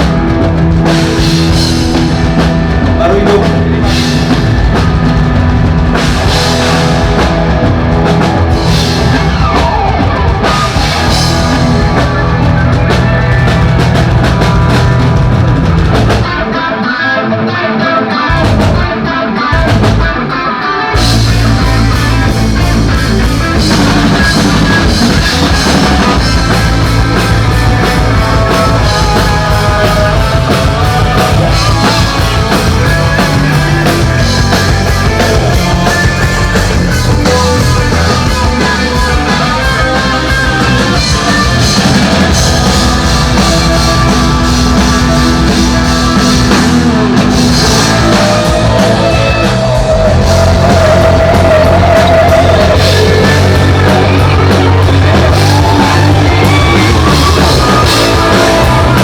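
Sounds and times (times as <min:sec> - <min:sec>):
electric guitar playing alone: 0:00.0 - 0:59.0
rock band playing: 0:00.0 - 0:59.0.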